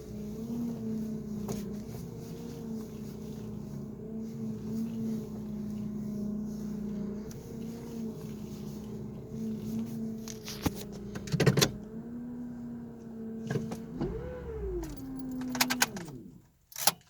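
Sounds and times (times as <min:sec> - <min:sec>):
power steering whining: 0:00.0 - 0:17.0.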